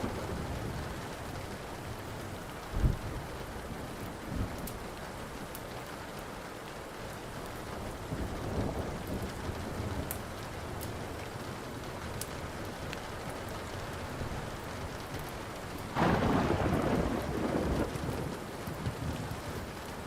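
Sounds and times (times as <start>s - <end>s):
steady rain: 0.0s - 20.0s
thunder claps and rumble: 0.0s - 20.0s
wood fire crackling: 0.0s - 20.0s.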